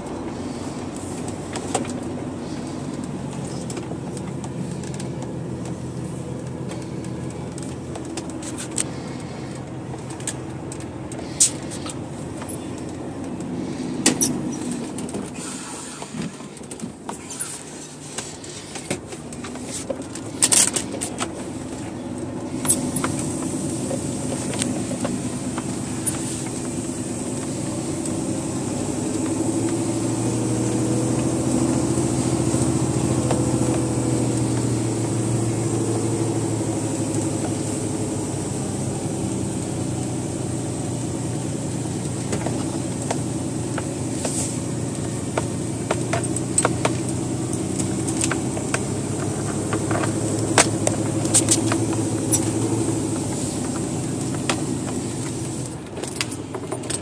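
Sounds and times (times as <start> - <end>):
cab rattling clicks and knocks: 0.0 - 15.4, 16.0 - 57.0
truck diesel engine running: 0.0 - 57.0.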